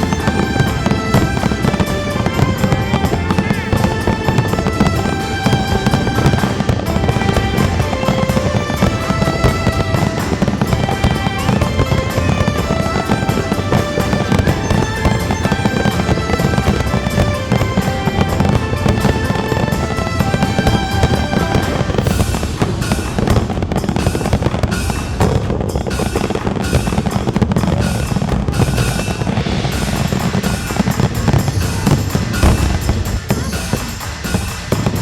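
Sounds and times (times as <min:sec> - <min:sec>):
background music: 0:00.0 - 0:35.0
fireworks banging and crackling: 0:00.0 - 0:35.0.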